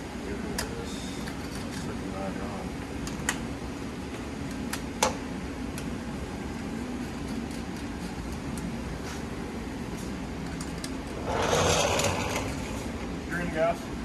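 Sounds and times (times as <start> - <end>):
low hum of shop background: 0.0 - 14.0.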